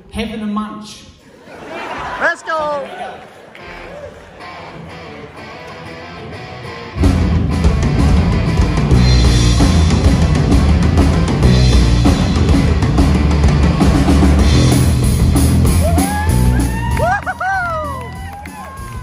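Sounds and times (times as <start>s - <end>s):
live rock band playing: 3.6s - 19.0s.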